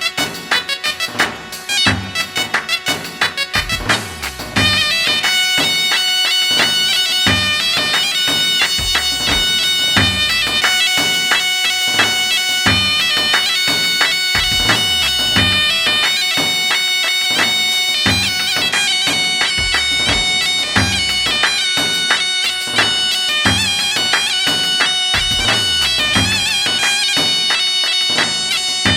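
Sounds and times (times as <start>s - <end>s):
reedy wind instrument droning: 0.0s - 28.9s
steady drum beat: 0.0s - 28.9s.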